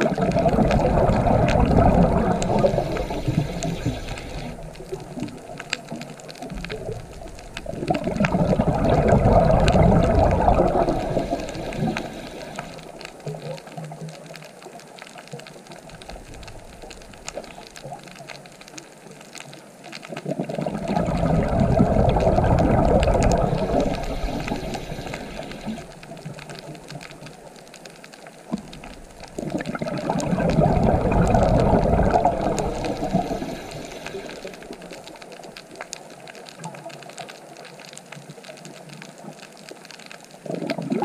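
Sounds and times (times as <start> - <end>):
underwater exhaled bubbles rushing: 0.0 - 18.5, 20.1 - 27.7, 28.4 - 37.6, 40.3 - 41.0
faint crackling: 0.0 - 41.0.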